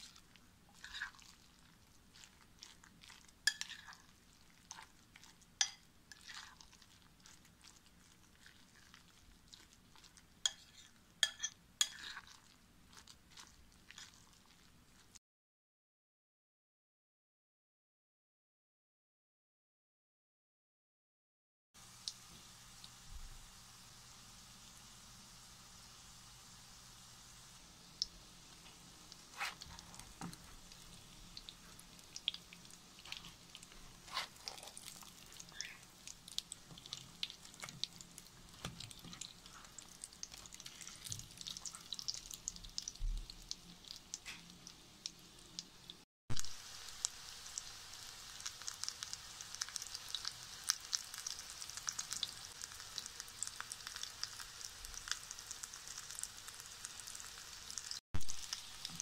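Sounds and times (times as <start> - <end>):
cutlets sizzling in oil: 0.0 - 15.2, 21.8 - 59.0.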